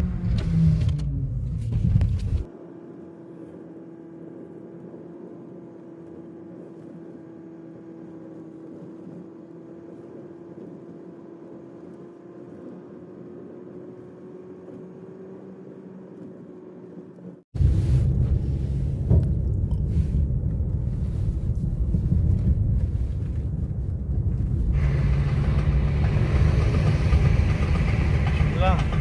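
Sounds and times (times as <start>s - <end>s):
car engine droning: 0.0s - 29.0s.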